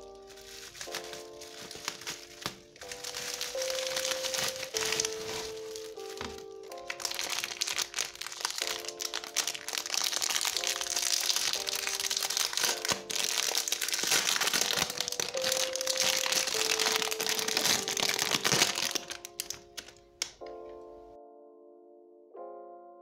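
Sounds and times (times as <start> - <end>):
plastic wrapping crinkling: 0.0 - 21.0
background music with held notes: 0.0 - 23.0.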